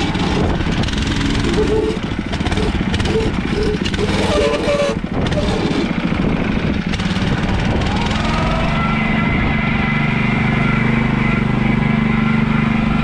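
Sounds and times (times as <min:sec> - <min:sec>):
small petrol engine running: 0:00.0 - 0:13.0.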